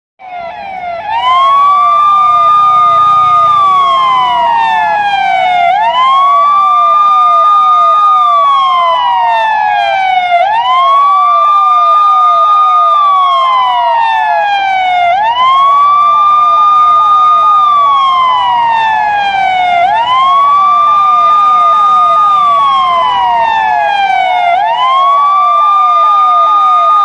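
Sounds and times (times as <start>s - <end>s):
police siren wail: 0.2s - 27.0s
police siren yelp: 0.2s - 27.0s.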